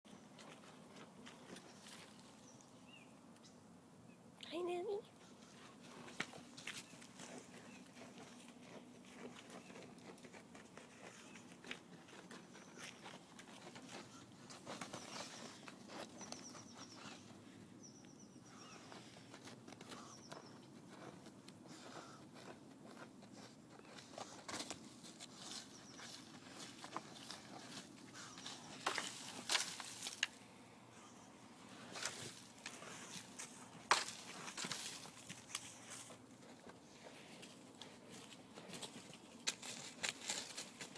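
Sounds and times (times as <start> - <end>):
puppy paws scratching soil: 0.3 - 2.8, 5.2 - 40.9.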